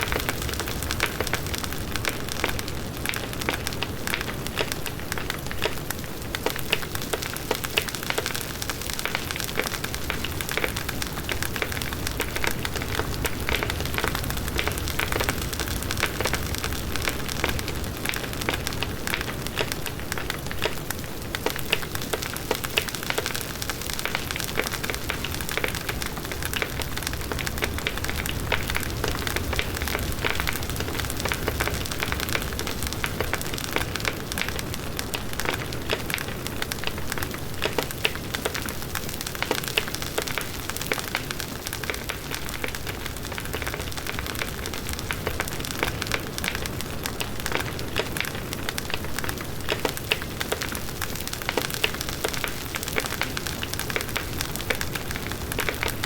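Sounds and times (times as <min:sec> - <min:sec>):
wood crackling and popping: 0:00.0 - 0:56.0.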